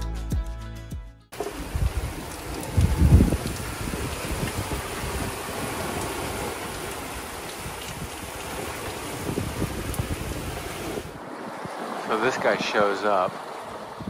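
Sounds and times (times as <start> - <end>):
water rushing past a hull: 1.4 - 14.0
wind buffeting microphone: 1.4 - 14.0.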